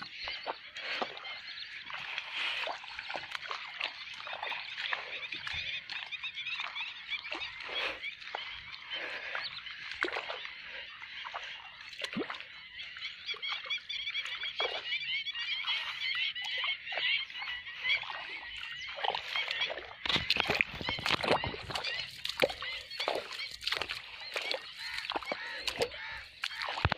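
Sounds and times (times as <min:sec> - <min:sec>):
footsteps wading through water: 0:00.0 - 0:26.9
frogs chirping: 0:00.0 - 0:26.9.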